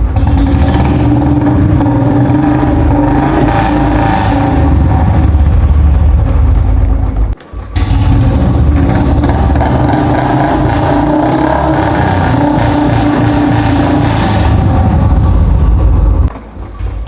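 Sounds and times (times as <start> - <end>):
motorcycle engine at raised revs: 0.0 - 17.0.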